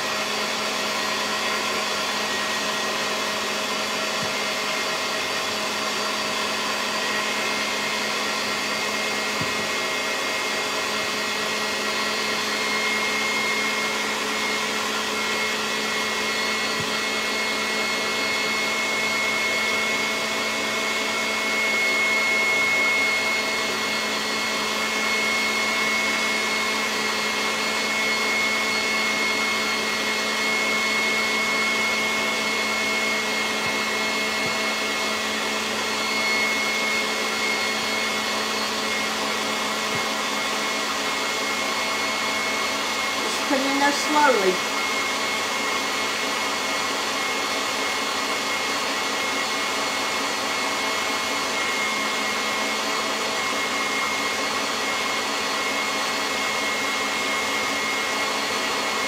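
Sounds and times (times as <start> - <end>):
stand mixer motor whining: 0.0 - 59.0.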